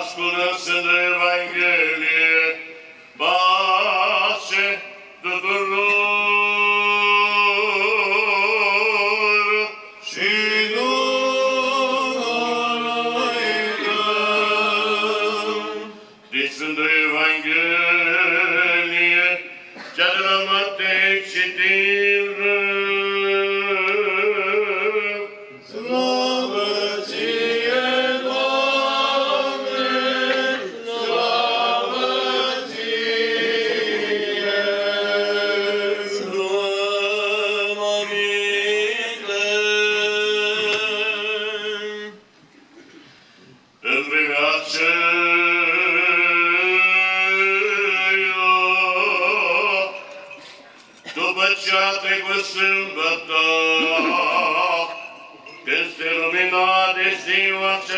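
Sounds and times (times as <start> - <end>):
voices singing a church chant: 0.0 - 42.2, 43.8 - 57.9.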